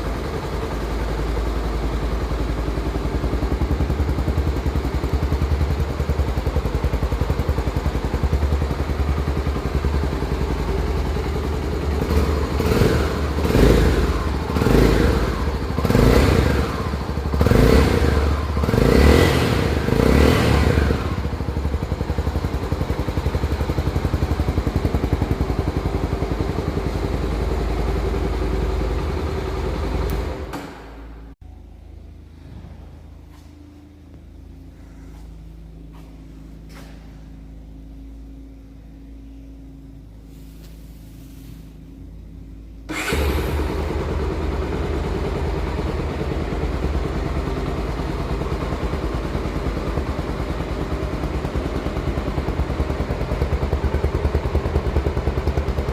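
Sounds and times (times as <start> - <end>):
motorcycle engine idling and revving: 0.0 - 55.9.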